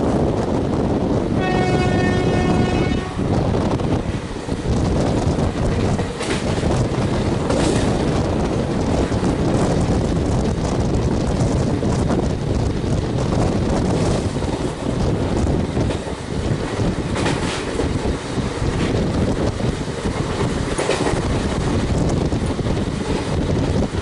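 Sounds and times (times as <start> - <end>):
train wheels roaring on rail: 0.0 - 24.0
wind buffeting microphone: 0.0 - 24.0.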